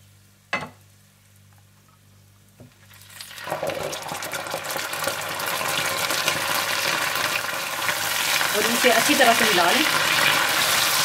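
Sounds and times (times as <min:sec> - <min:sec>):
yogurt sizzling in hot pot: 0:00.0 - 0:11.0.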